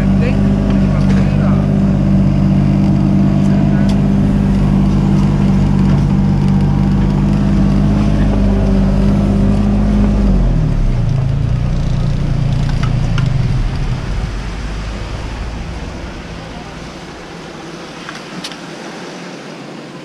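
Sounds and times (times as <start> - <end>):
excavator diesel engine running: 0.0 - 18.5.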